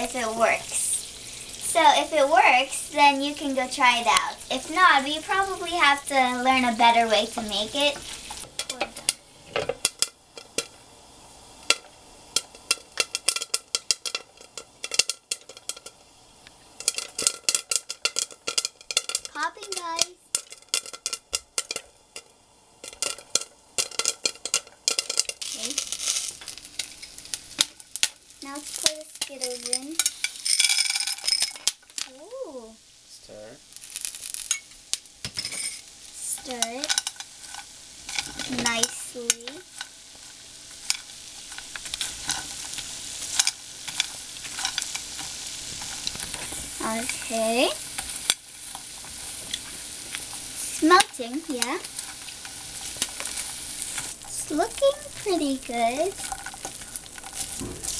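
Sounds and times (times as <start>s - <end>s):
pan sizzling: 0.0s - 57.9s
popcorn popping: 0.0s - 57.9s.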